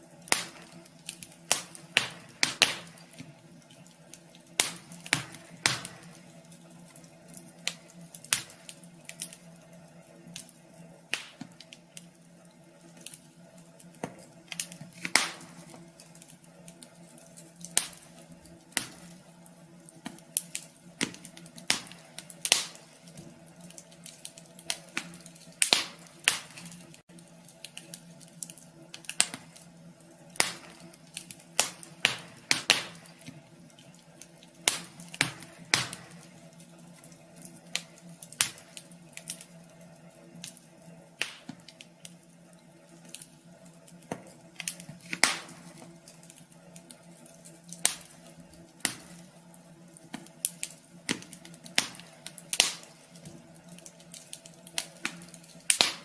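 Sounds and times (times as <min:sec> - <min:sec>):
faint steady hum: 0:00.0 - 0:56.0
wood fire crackling: 0:00.0 - 0:56.0.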